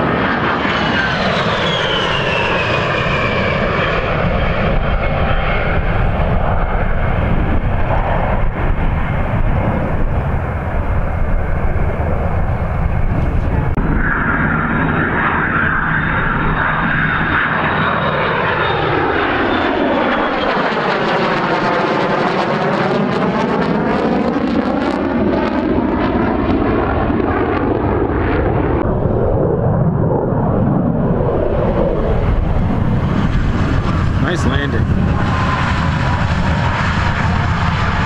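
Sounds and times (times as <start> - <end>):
fighter jet flying past: 0.0 - 38.0.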